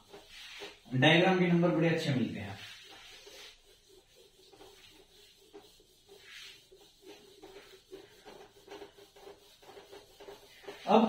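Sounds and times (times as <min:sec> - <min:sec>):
duster rubbing on whiteboard: 0:00.0 - 0:11.0.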